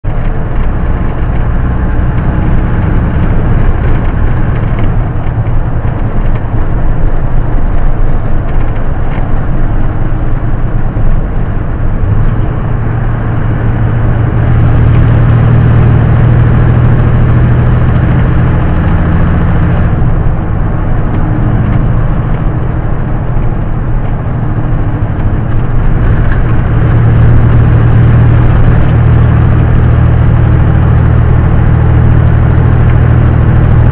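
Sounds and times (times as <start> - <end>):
road noise: 0.0 - 33.9
truck diesel engine drone: 0.0 - 33.9.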